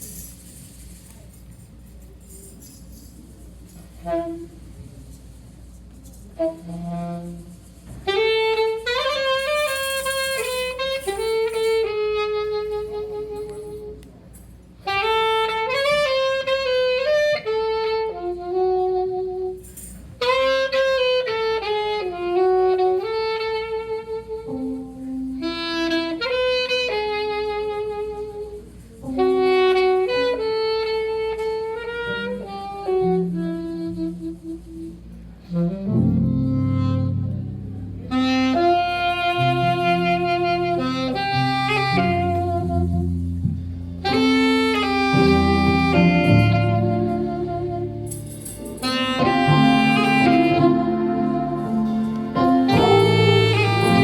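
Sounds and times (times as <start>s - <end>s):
saxophone playing slow melody: 3.8s - 5.0s, 6.2s - 54.0s.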